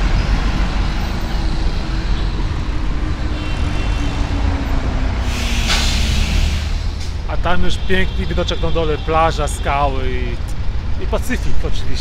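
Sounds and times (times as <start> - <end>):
buses and cars passing: 0.0 - 12.0
steady engine rumble: 0.0 - 12.0.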